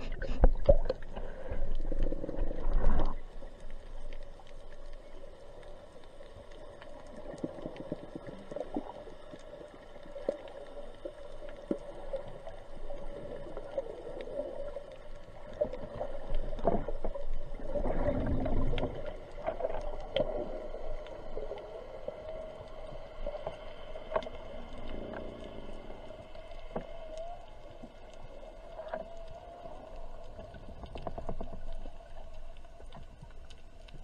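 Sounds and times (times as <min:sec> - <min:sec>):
underwater hum: 0:00.0 - 0:34.0.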